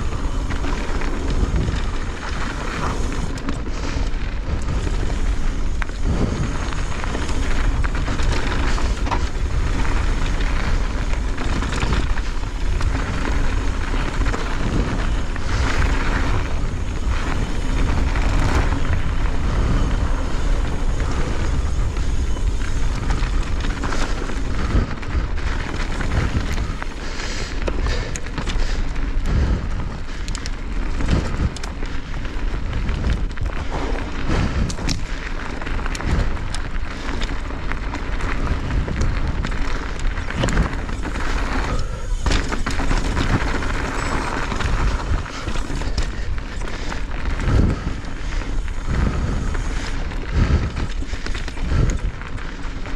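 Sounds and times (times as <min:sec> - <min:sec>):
bike knocking and clattering: 0:00.0 - 0:52.9
wind rumble on microphone: 0:00.0 - 0:52.9.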